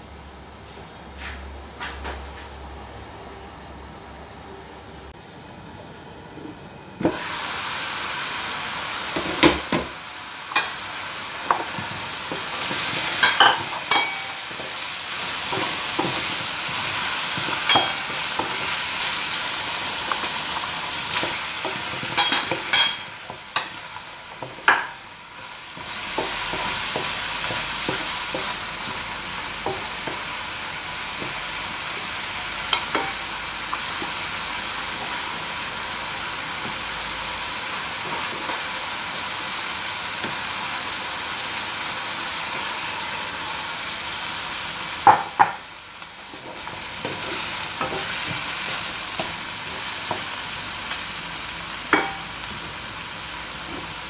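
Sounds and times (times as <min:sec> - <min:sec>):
food sizzling in a frying pan: 0:02.6 - 0:54.0.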